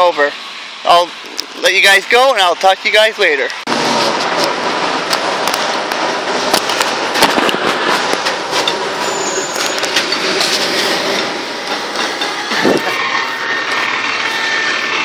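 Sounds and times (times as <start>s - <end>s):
city bus running: 0.0s - 15.0s.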